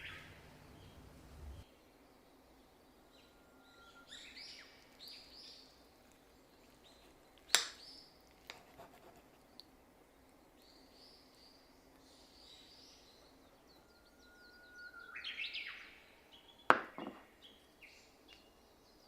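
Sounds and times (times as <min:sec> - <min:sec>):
birds chirping: 0:00.0 - 0:08.3, 0:09.3 - 0:19.0.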